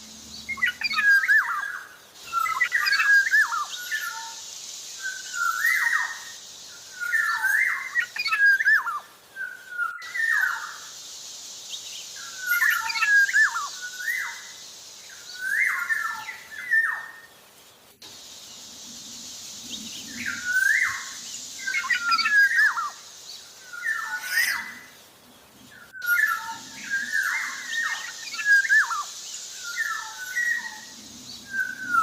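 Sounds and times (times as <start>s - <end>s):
steady high hiss: 0.0s - 32.0s
bird whistling song: 0.4s - 4.4s, 5.0s - 11.0s, 11.7s - 17.3s, 19.7s - 24.9s, 25.8s - 32.0s.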